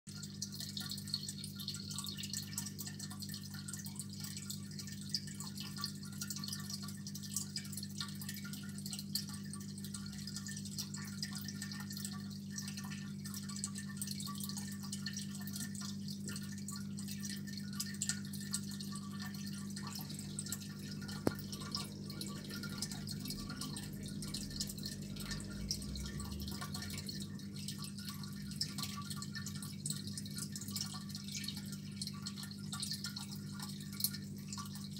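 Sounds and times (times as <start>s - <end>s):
aquarium filter humming: 0.1s - 34.9s
water dripping and trickling: 0.1s - 34.9s.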